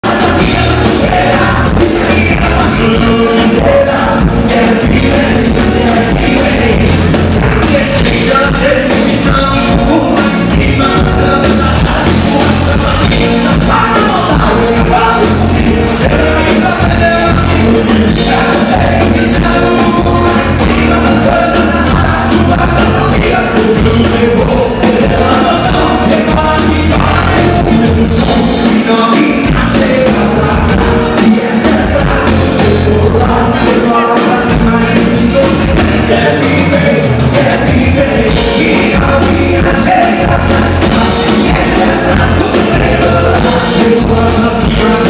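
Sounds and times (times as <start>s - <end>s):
live band playing: 0.0s - 45.0s
man singing: 0.0s - 45.0s.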